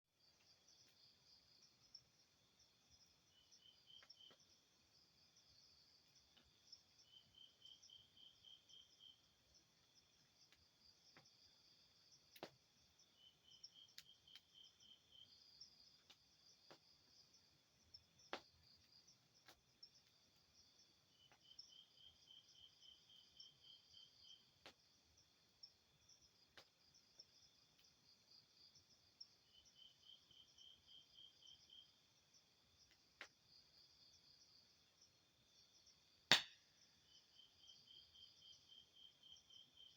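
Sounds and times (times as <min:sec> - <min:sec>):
crickets chirping chorus: 0:00.2 - 0:39.9.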